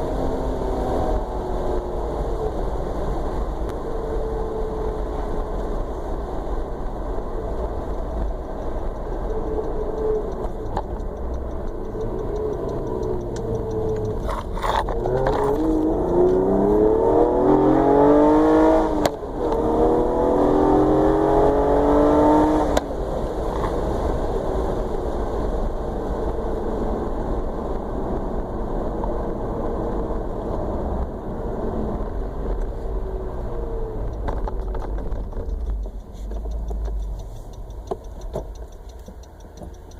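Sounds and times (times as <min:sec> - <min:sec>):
vehicle engine running and revving: 0:00.0 - 0:39.9.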